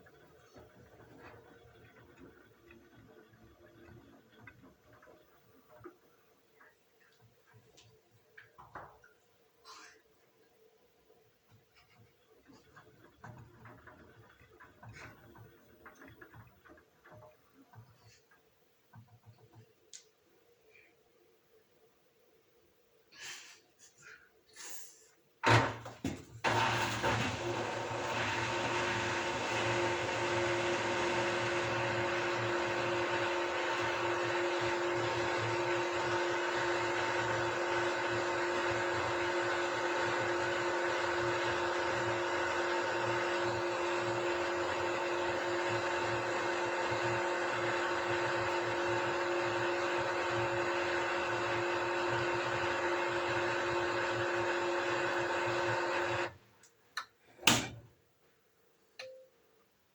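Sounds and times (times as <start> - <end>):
washing machine spinning: 0.0 - 9.2, 11.6 - 19.7, 25.4 - 56.4.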